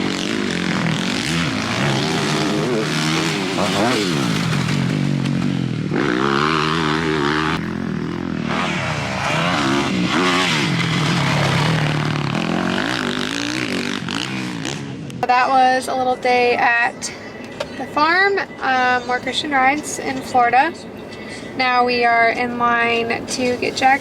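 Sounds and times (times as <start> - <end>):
motocross bike engine revving: 0.0 - 20.6.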